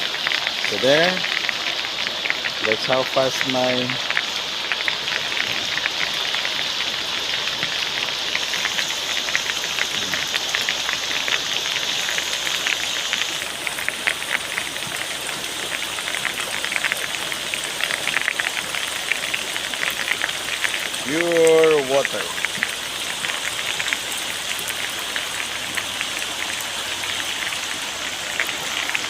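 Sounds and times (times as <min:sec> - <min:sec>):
rain pattering on pool water: 0:00.0 - 0:29.0.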